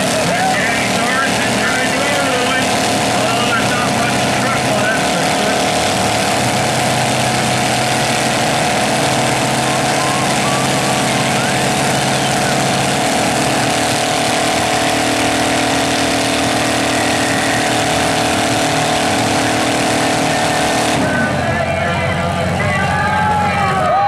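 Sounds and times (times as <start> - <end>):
pickup truck engines revving hard: 0.0 - 24.0.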